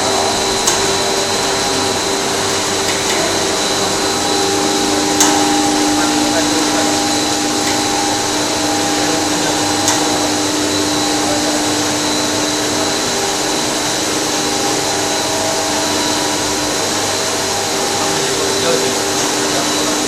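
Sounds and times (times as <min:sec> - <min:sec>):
machine motors and blowers whirring: 0:00.0 - 0:20.0.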